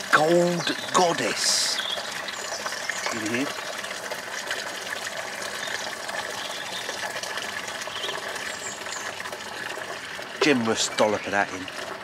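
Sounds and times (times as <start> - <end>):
water pouring into bath: 0.0 - 12.0.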